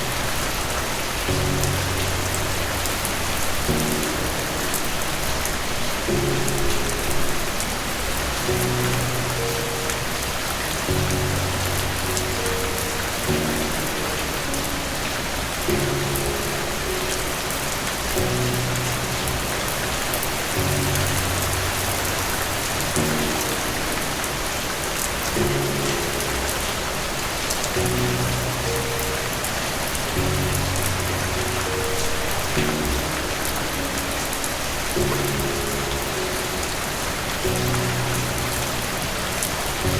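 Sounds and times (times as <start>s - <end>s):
soft slow music: 0.0s - 39.9s
steady rain: 0.0s - 39.9s.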